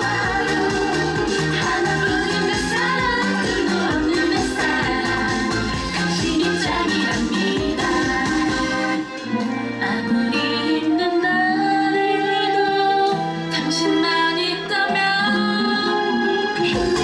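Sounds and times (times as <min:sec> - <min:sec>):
upbeat pop song: 0:00.0 - 0:17.0
woman singing: 0:00.0 - 0:17.0.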